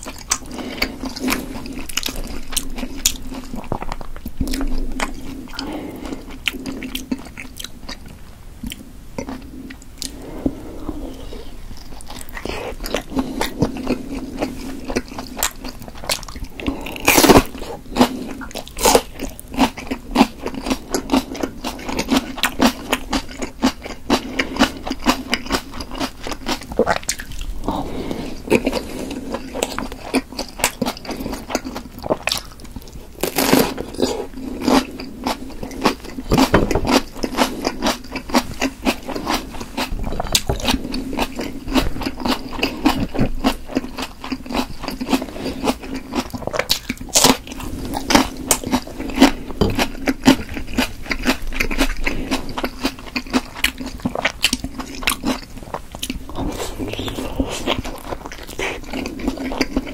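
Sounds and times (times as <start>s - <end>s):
wet sticky chewing: 0.0s - 59.9s.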